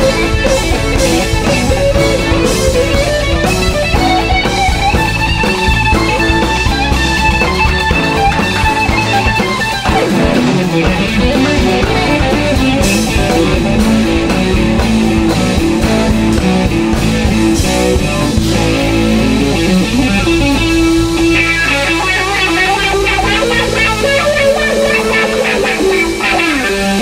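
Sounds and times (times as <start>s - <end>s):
electric guitar melody: 0.0s - 27.0s
low accompaniment: 0.0s - 27.0s.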